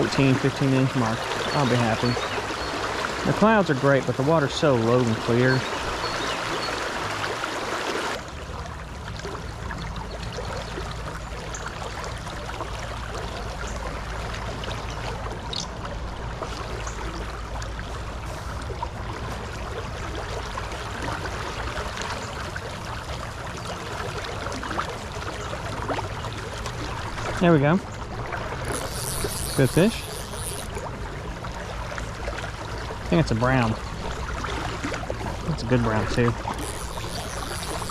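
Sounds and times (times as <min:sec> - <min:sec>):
river water rushing: 0:00.0 - 0:09.6, 0:13.9 - 0:37.9.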